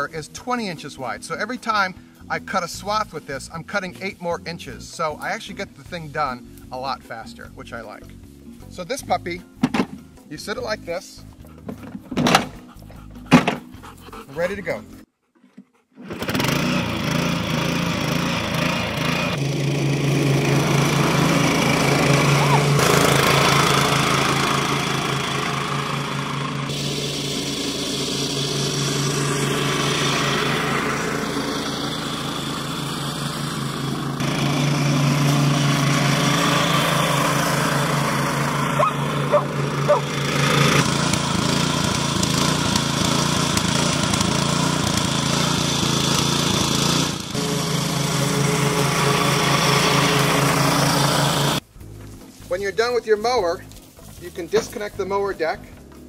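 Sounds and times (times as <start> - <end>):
lawn mower engine running: 8.7 - 15.1, 16.0 - 56.0.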